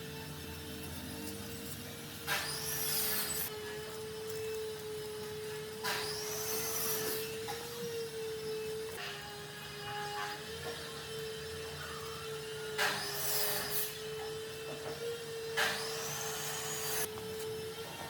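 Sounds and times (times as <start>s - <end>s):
woodworking power tool running: 0.0s - 18.0s.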